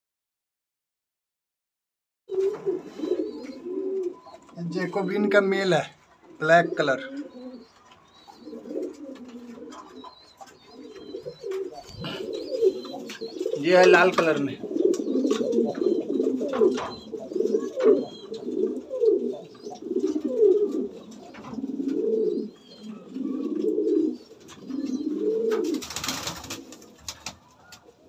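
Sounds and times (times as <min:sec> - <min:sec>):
pigeons cooing: 0:02.3 - 0:28.0.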